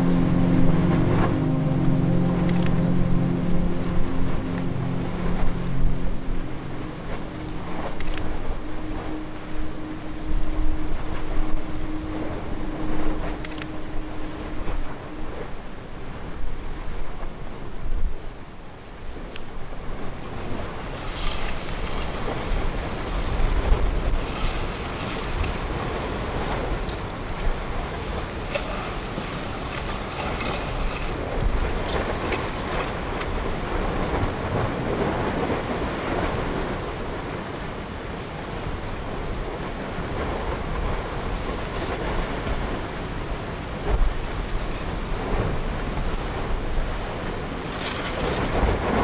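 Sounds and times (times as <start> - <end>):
wind on microphone: 0.0 - 49.0.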